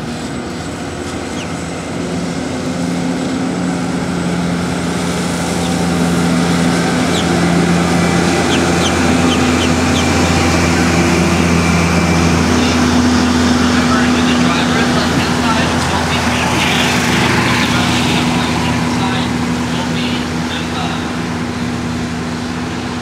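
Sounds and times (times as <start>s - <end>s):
tram engine humming: 0.0s - 23.0s.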